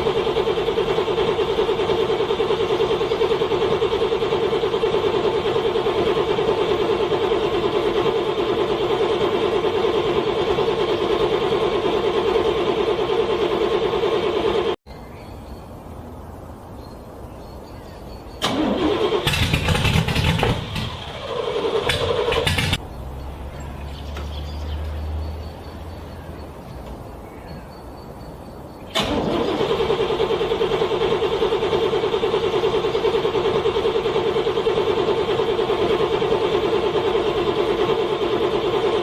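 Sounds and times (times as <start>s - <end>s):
car engine cranking: 0.0s - 14.8s, 18.4s - 26.2s, 28.9s - 39.0s.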